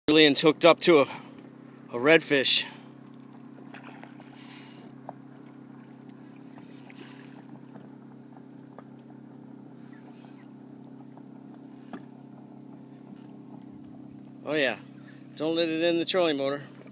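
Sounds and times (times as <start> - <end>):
boat motor humming: 0.1 - 16.9.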